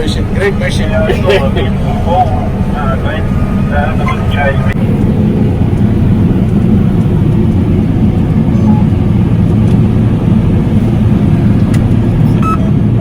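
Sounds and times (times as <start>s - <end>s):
combine harvester drone: 0.0s - 13.0s.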